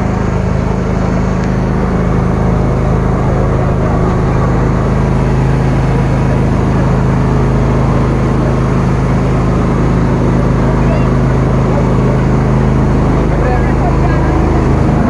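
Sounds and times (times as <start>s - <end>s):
boat engine humming: 0.0s - 15.0s
water rushing along a hull: 0.0s - 15.0s.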